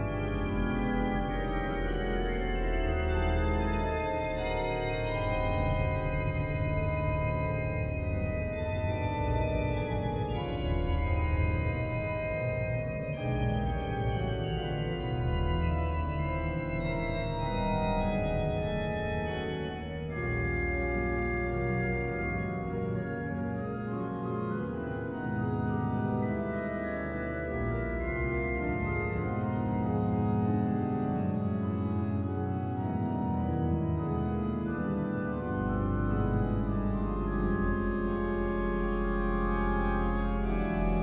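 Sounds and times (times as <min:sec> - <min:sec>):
organ playing held chords: 0:00.0 - 0:41.0.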